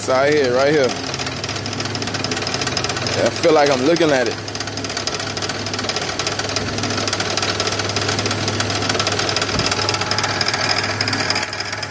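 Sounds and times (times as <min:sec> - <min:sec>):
car engine running: 0:00.0 - 0:11.9
rapid even engine knocking: 0:00.0 - 0:11.9.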